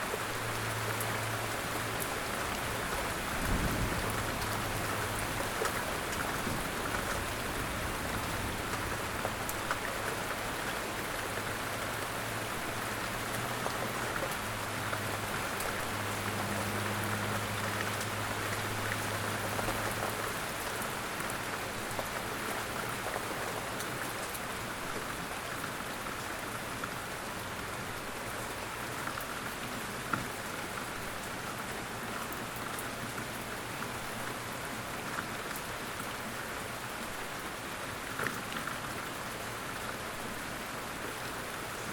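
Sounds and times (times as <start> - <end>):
light rain falling: 0.0 - 41.9.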